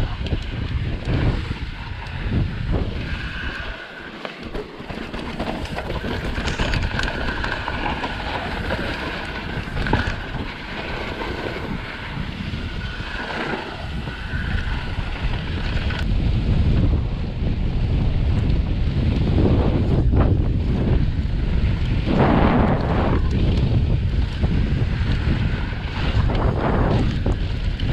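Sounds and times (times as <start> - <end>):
bike rattling: 0.0 - 27.9
wind buffeting microphone: 0.0 - 27.9.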